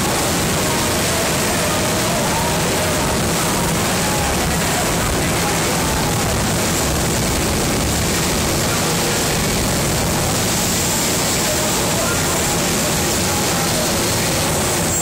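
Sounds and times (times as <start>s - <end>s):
faint crowd voices: 0.0s - 15.0s
jet engine roaring: 0.0s - 15.0s.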